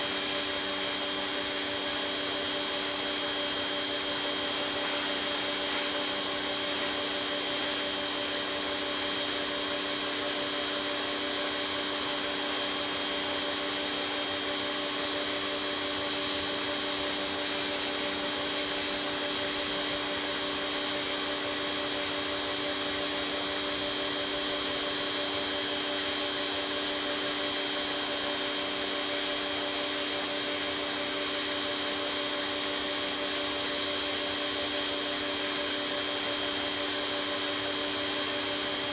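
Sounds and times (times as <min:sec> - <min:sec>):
pressure washer motor whine: 0:00.0 - 0:38.9.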